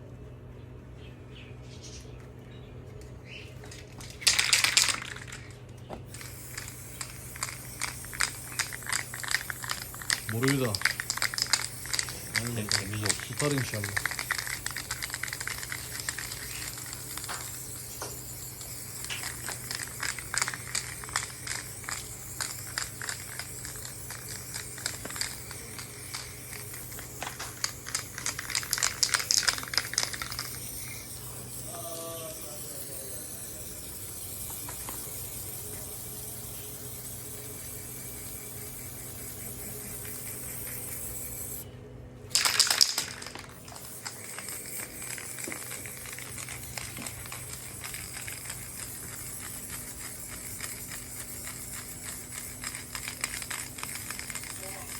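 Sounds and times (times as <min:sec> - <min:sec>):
spray can rattling and clicking: 0:03.6 - 0:41.6, 0:42.3 - 0:54.9
spray paint hissing: 0:03.6 - 0:41.7, 0:42.3 - 0:54.9.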